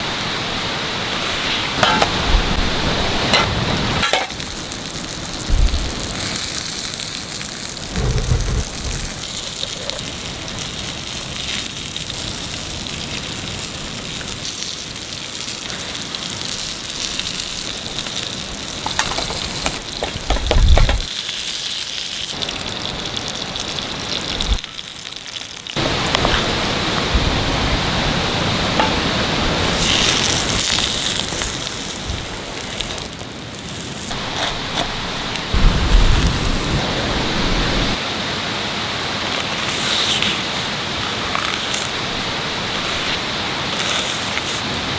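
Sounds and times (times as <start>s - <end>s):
fire crackles: 0.0s - 44.9s
food sizzling over a campfire: 0.0s - 44.9s.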